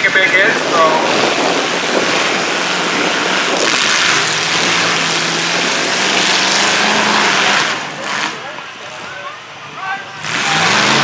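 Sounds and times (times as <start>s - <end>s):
loud rushing exhaust: 0.0s - 11.0s
car engine revving high: 0.6s - 8.6s, 10.1s - 11.0s.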